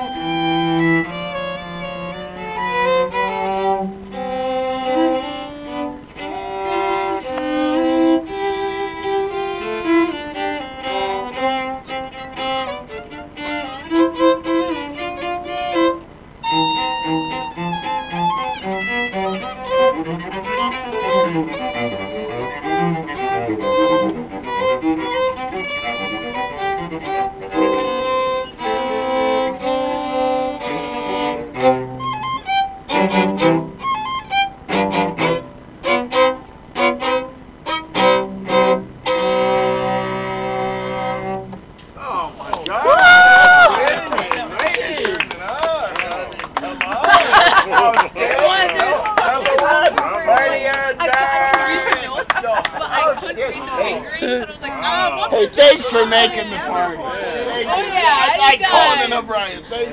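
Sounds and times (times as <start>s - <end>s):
violin melody: 0.0s - 41.8s, 52.9s - 59.9s
cello notes: 0.0s - 59.9s.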